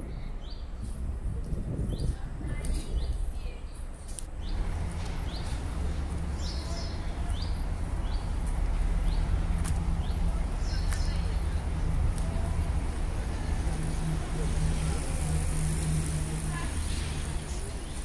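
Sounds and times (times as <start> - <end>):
songbird chirping: 0.0 - 14.5
low town hum: 0.0 - 18.0.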